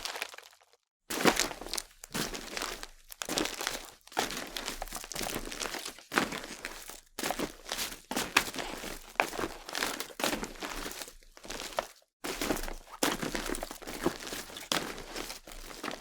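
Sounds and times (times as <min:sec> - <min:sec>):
footsteps crunching on crackly ground: 0:00.0 - 0:16.0.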